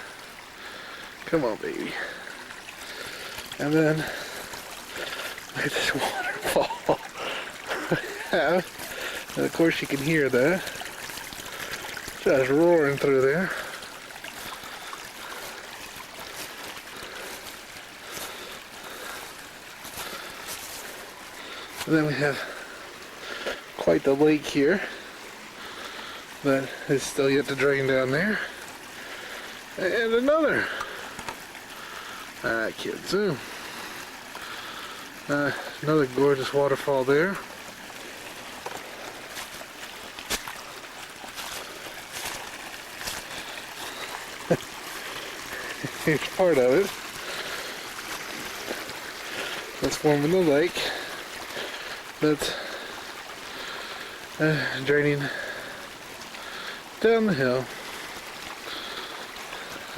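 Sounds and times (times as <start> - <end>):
water rushing over waterfall: 0.0 - 59.9.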